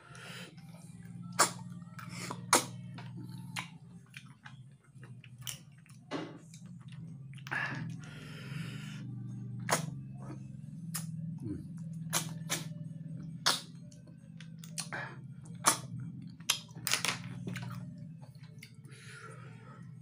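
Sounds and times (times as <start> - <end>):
low steady hum: 0.0 - 20.0
chewing: 0.2 - 19.4.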